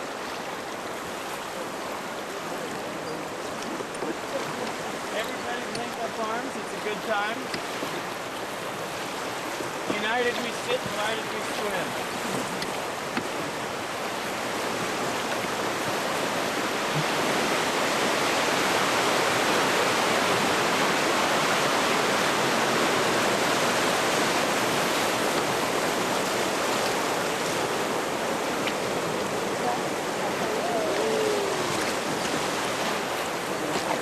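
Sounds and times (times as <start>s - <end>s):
river rapids rushing: 0.0s - 34.0s.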